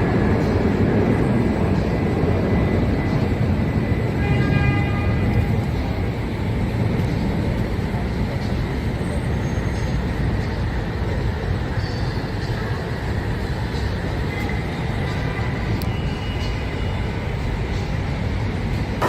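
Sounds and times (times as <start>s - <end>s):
vehicle road noise rumble: 0.0s - 19.0s.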